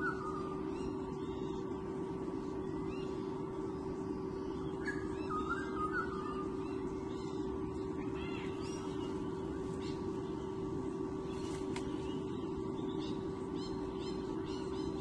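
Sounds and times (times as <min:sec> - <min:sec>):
electrical hum: 0:00.0 - 0:15.0
faint high bird calls: 0:02.6 - 0:15.0.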